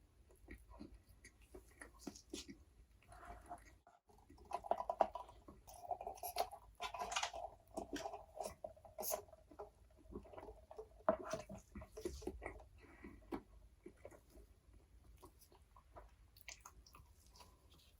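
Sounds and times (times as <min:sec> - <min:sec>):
person chewing food: 0:00.0 - 0:17.9.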